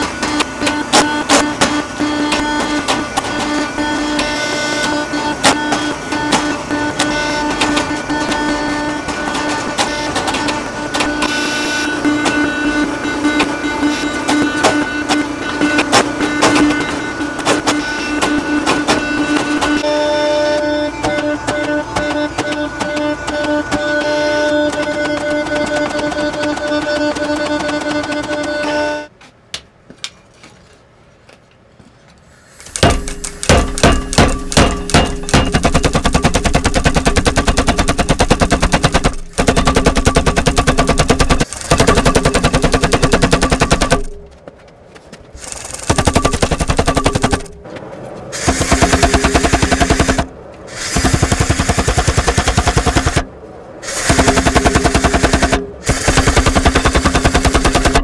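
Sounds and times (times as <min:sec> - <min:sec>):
power hammer pounding steel: 0:00.0 - 0:29.1, 0:32.6 - 0:44.3, 0:45.4 - 0:47.7, 0:48.3 - 0:58.0.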